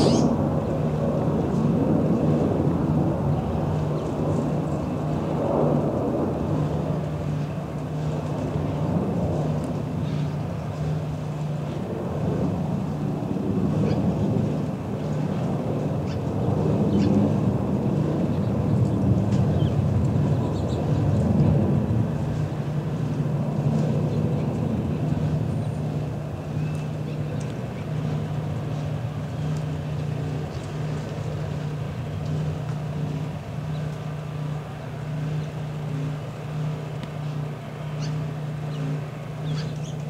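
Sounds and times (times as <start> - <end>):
jet engines droning overhead: 0.0 - 40.0.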